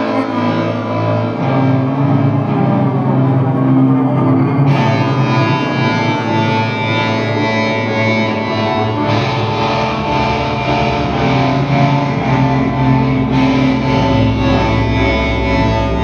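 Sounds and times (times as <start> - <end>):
droning electric guitar music: 0.0 - 16.0.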